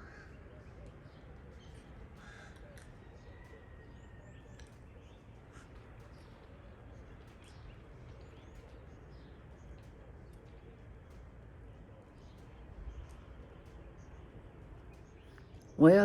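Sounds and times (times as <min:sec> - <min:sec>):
low background rumble: 0:00.0 - 0:16.0
small birds chirping: 0:00.0 - 0:16.0.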